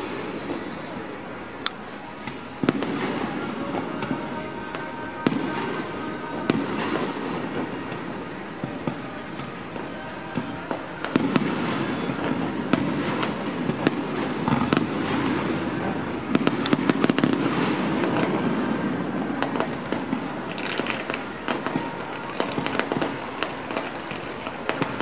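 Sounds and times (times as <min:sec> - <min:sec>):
fine firework crackling: 0:00.0 - 0:25.0
fireworks rumble: 0:00.0 - 0:25.0.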